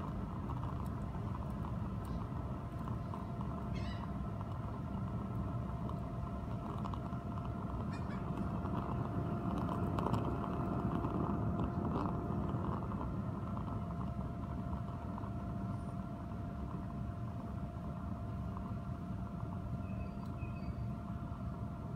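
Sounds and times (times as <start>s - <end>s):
crackles: 0.0s - 20.8s
low rumble of flame: 0.0s - 21.9s
small fan humming: 0.0s - 21.9s.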